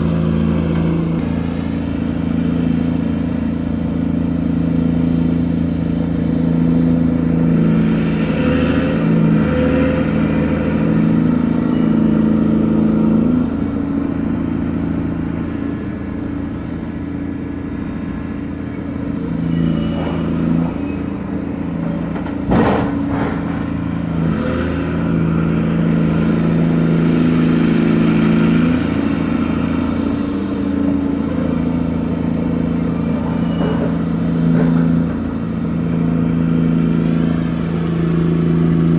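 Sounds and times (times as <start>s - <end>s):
cargo crane machinery running: 0.0s - 38.9s.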